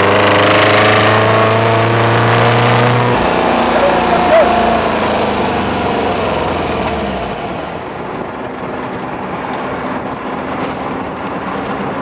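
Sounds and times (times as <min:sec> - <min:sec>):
car engine running: 0:00.0 - 0:12.0
tyre noise: 0:00.1 - 0:12.0.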